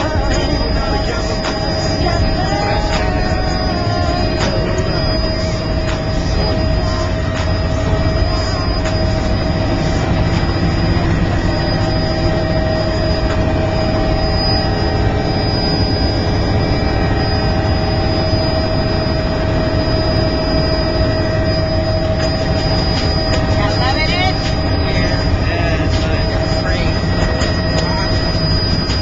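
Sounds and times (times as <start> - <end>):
helicopter engine and rotor rumble: 0.0 - 29.0
high engine whine: 0.0 - 29.0.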